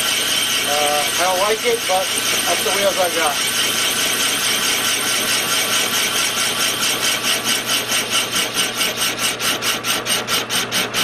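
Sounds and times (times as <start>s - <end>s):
metal lathe cutting: 0.0s - 11.0s.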